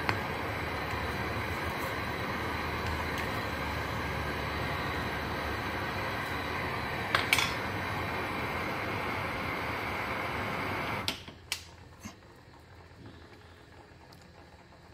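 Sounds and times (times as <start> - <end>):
pot heating on gas burner: 0.0 - 14.9.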